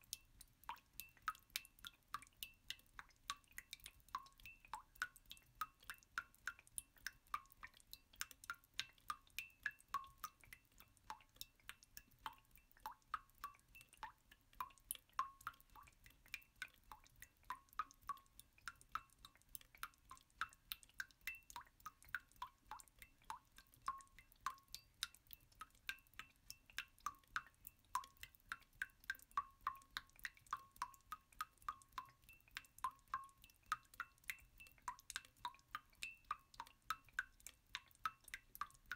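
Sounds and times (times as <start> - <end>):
water dripping: 0.0 - 38.9.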